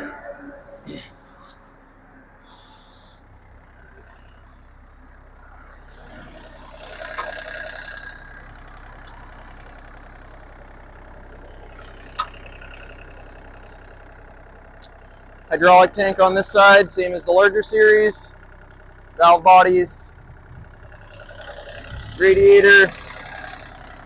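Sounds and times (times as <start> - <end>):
excavator diesel engine idling: 0.0 - 24.0.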